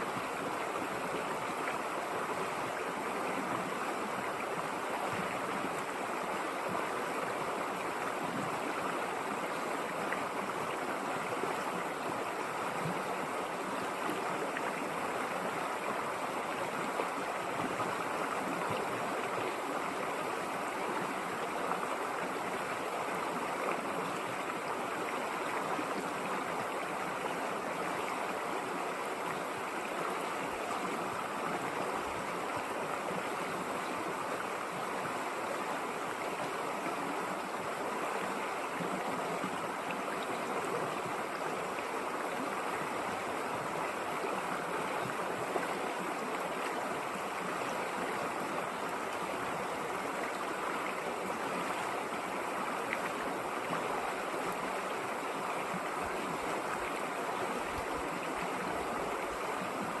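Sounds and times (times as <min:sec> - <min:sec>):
river flowing over rocks: 0:00.0 - 1:00.0.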